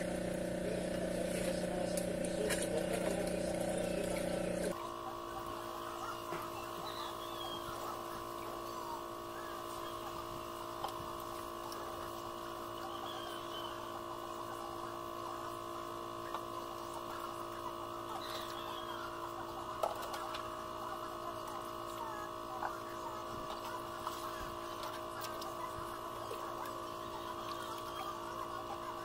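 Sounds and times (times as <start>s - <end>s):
aquarium pump motor humming: 0.0s - 29.0s.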